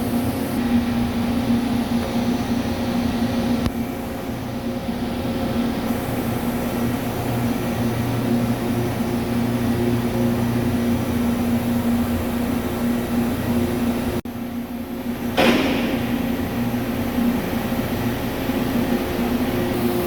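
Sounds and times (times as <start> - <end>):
lathe machine hum: 0.0 - 20.0.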